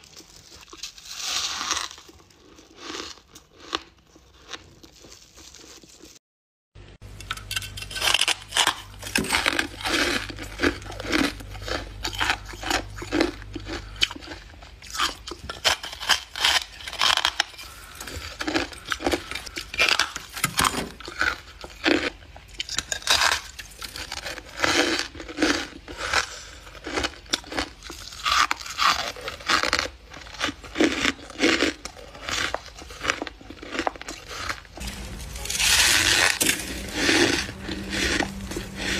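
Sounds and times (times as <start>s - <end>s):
chewing crunchy ice: 0.0s - 6.2s, 7.0s - 38.9s.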